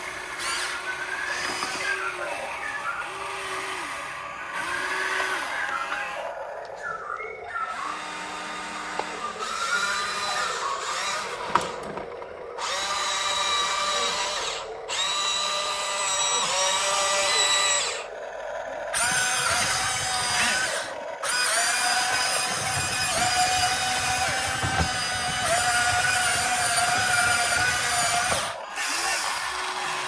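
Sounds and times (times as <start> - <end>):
model excavator motor whining: 0.0 - 30.0.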